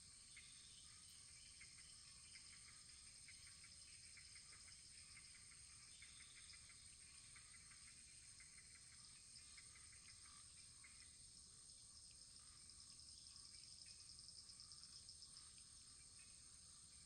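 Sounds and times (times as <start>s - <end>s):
soft steady hiss: 0.0s - 17.0s.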